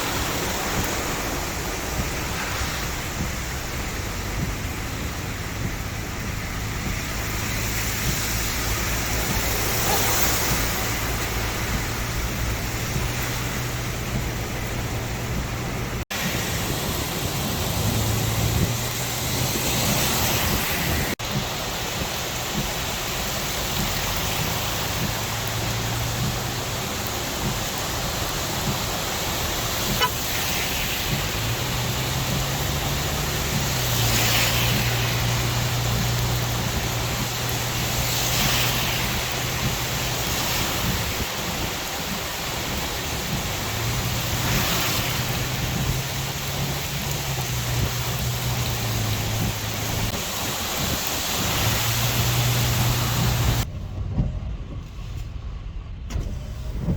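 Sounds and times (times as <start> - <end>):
hiss: 0.0 - 15.0, 16.1 - 53.7
heavy rain: 0.0 - 54.1
vehicle engine hum: 0.0 - 56.9.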